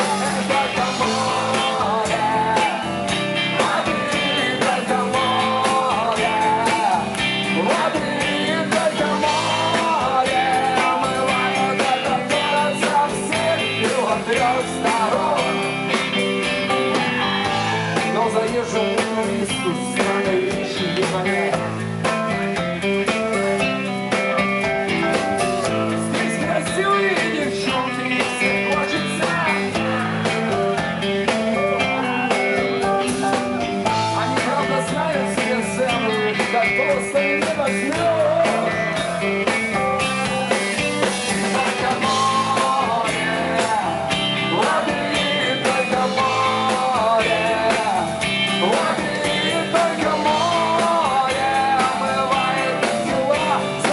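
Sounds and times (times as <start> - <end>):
bass and drum beat: 0.0 - 53.9
guitar lead with bending notes: 0.0 - 53.9.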